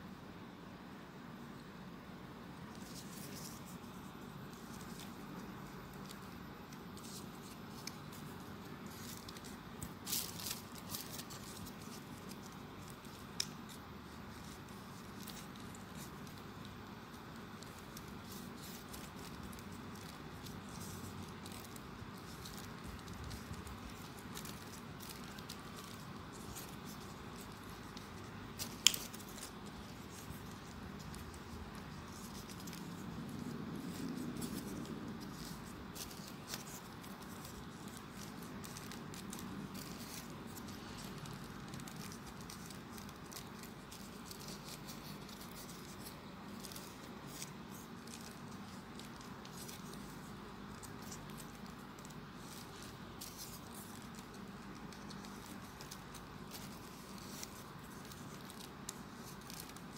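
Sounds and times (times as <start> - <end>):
paper rustling and crinkling: 2.5 - 59.9.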